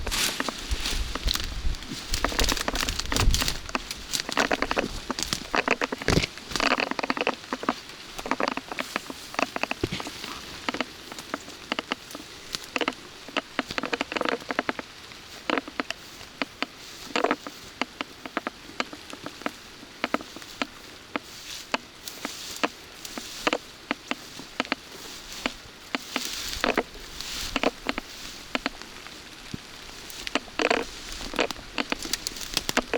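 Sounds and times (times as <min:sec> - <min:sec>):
raindrops pattering: 0:00.0 - 0:32.9.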